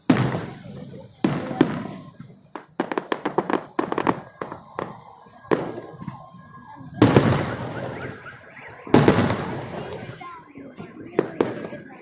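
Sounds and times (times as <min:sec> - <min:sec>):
loud firework burst: 0:00.0 - 0:10.3
firework cracks: 0:00.0 - 0:12.0.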